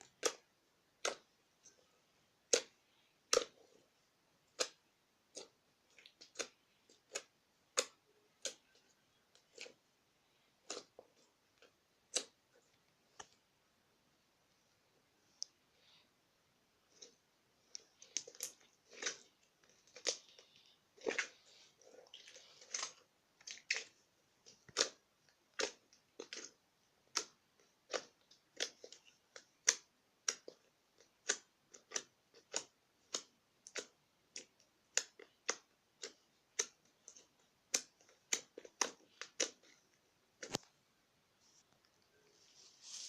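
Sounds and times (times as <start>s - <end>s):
slime squishing with clicks and pops: 0.0s - 13.7s, 16.5s - 41.1s.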